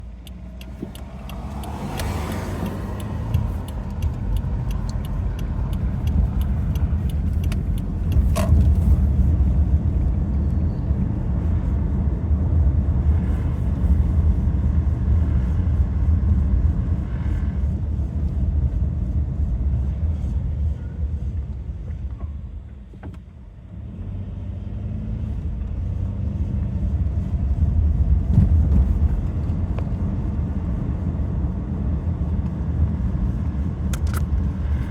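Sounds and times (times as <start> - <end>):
road and engine rumble: 0.0 - 34.9.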